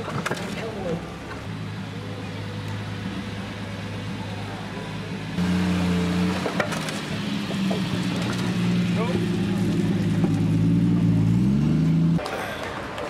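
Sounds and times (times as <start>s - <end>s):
car engine at low revs: 1.3s - 12.2s.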